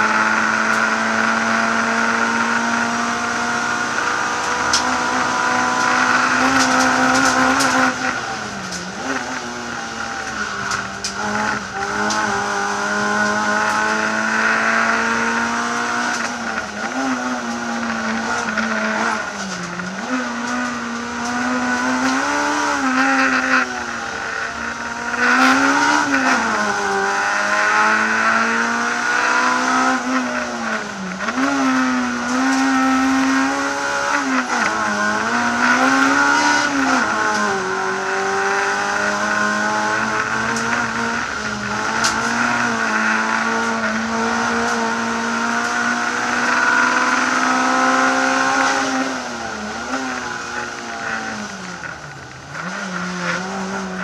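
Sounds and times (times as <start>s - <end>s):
car engine revving inside cabin: 0.0s - 54.0s.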